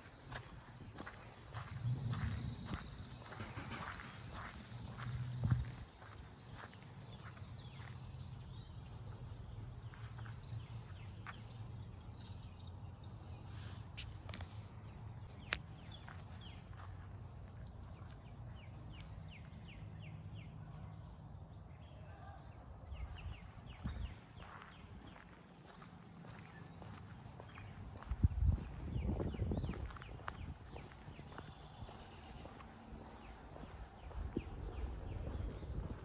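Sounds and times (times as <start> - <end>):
low outdoor rumble: 0.0 - 36.0
small birds chirping: 0.0 - 36.0.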